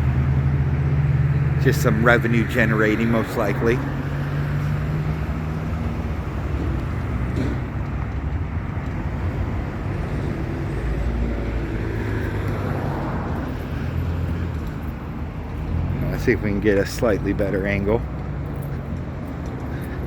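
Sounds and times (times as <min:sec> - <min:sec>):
freeway traffic passing: 0:00.0 - 0:20.0.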